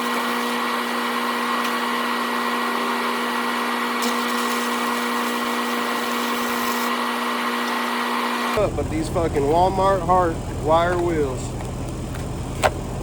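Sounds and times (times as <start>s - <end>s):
angle grinder with wire wheel: 0.0s - 11.2s.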